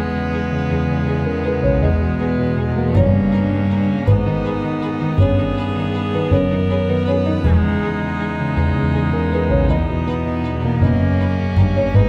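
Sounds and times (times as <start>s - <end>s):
low bass line: 0.0s - 12.0s
music of sustained notes: 0.0s - 12.0s.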